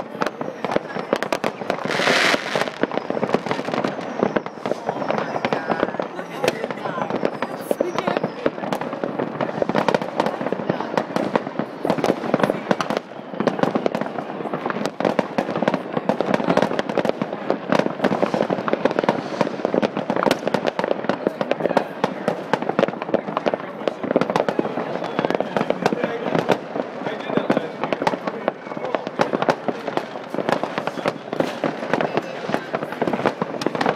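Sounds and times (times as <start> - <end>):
fireworks bangs and crackles: 0.0 - 33.9.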